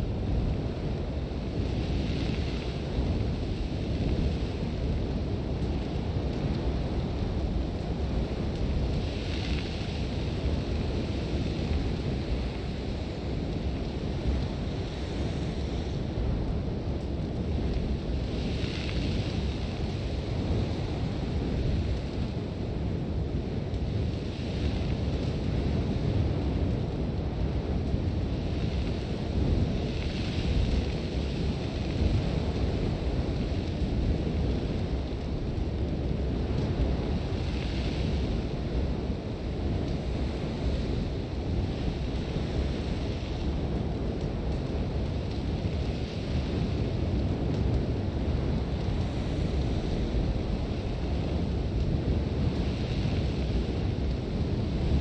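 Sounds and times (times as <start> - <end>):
strong wind gusts: 0.0 - 55.0.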